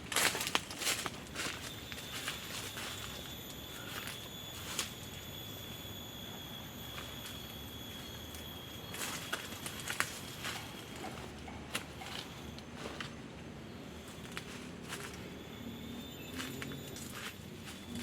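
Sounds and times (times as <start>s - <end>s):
rustling on dry forest litter: 0.0s - 5.4s, 6.9s - 18.0s
high-pitched insect drone: 0.0s - 18.0s.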